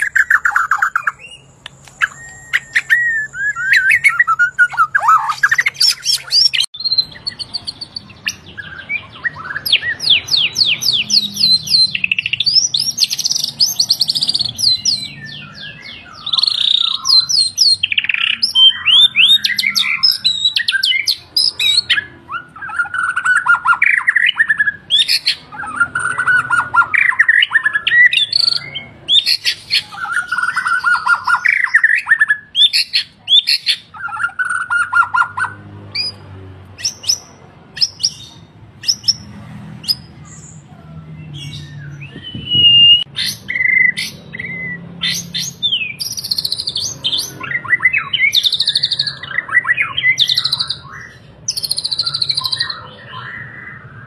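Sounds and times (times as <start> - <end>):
songbird singing whistled notes: 0.0 - 36.2, 36.8 - 39.2, 41.2 - 54.0.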